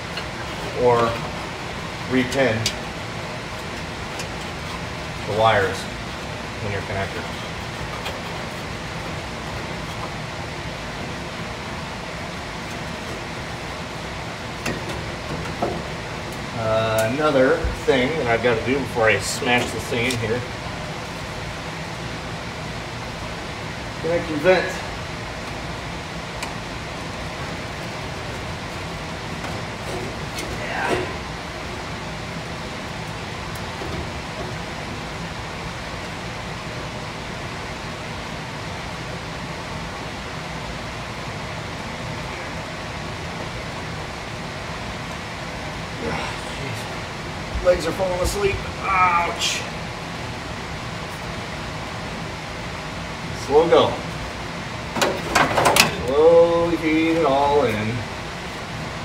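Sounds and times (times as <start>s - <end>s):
room ventilation whooshing: 0.0s - 59.0s.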